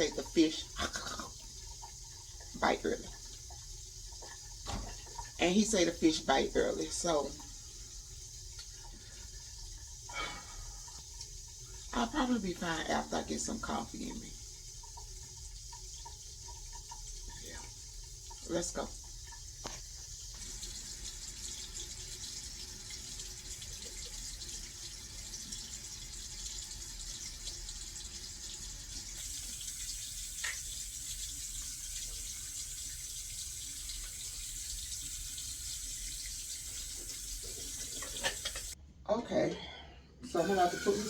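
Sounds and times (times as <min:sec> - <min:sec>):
tap water running into sink: 0:00.0 - 0:38.8, 0:40.3 - 0:41.0.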